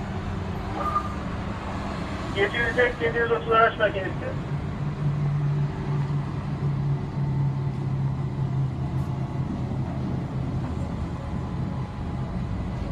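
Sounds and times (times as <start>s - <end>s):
tram running drone: 0.0s - 12.9s.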